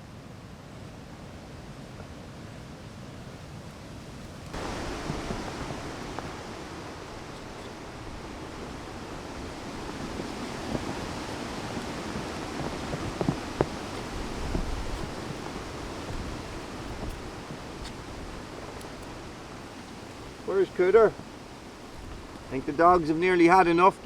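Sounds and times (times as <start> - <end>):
rain and wind hiss: 0.0 - 24.0.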